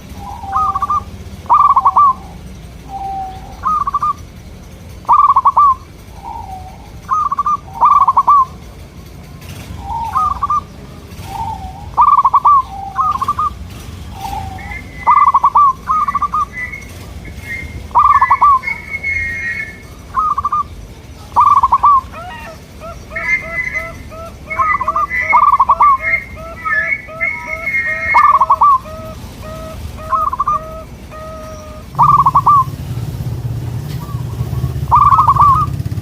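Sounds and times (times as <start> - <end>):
doves cooing: 0.0 - 36.0
high chirping notes: 0.0 - 36.0.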